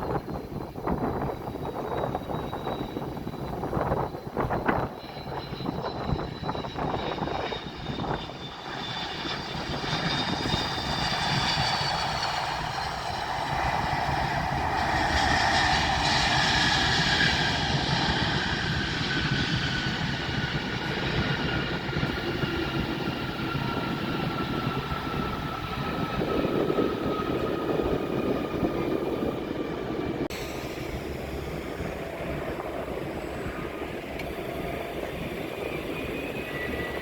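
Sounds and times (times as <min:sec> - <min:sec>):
jet airliner engines passing: 0:00.0 - 0:37.0.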